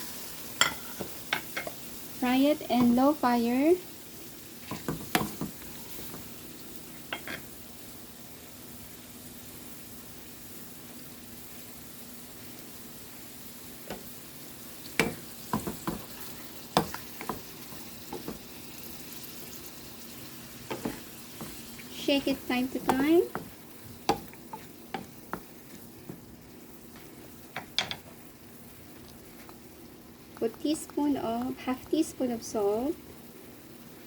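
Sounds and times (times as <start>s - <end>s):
meat sizzling in a pan: 0.0s - 34.0s.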